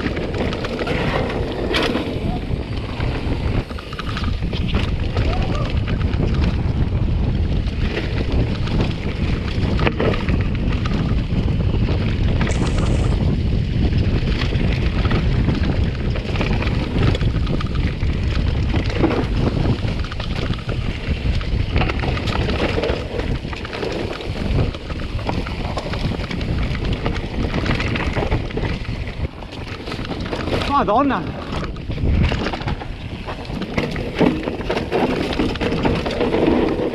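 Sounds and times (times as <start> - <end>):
bike rattling over rough trail: 0.0 - 36.9
wind buffeting microphone: 0.0 - 36.9.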